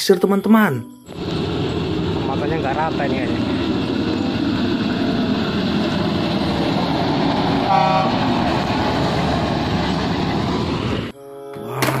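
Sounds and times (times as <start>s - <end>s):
truck engine and tyre rumble: 1.1s - 11.1s.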